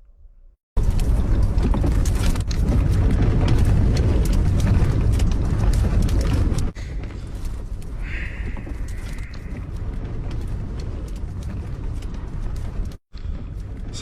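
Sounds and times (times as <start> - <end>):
wind buffeting microphone: 0.8 - 14.0.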